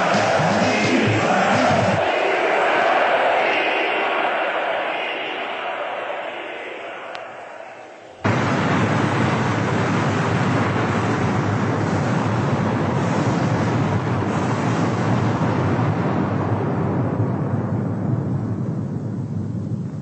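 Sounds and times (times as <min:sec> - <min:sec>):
loud steady rushing noise: 0:00.0 - 0:20.0.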